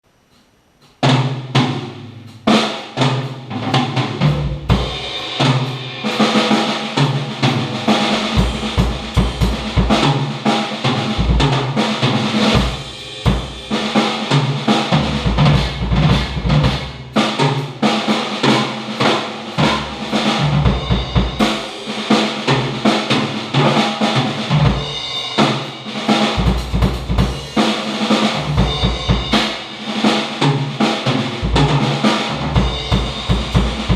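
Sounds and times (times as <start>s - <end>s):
drum kit playing: 0.3s - 33.9s.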